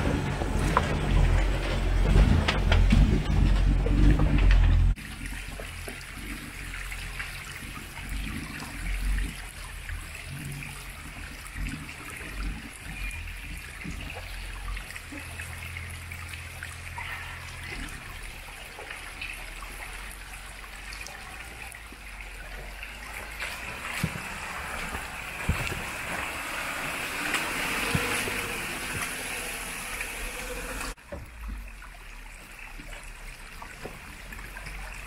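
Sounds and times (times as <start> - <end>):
water trickling over rocks: 3.7 - 35.0.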